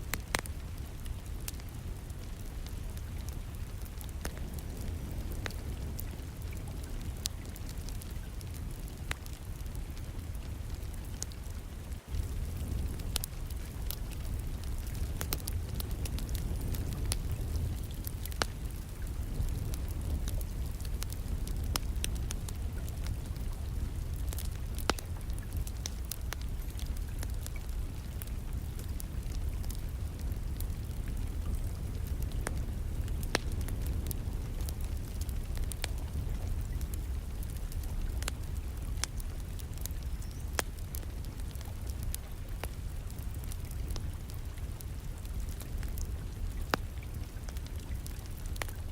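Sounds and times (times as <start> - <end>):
distant rain: 0.0 - 48.9
wood fire crackling and popping: 0.0 - 48.9.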